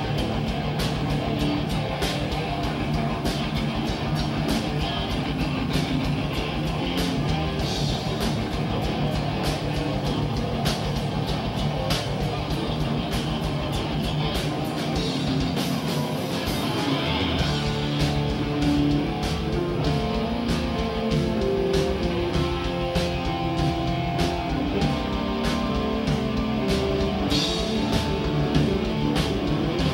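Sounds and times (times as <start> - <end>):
heavy metal band playing live: 0.0 - 29.9.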